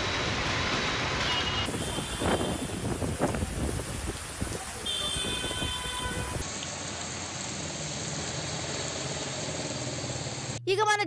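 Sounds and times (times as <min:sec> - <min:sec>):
heavy rain pouring: 0:00.0 - 0:10.6
traffic passing through water: 0:00.0 - 0:10.6.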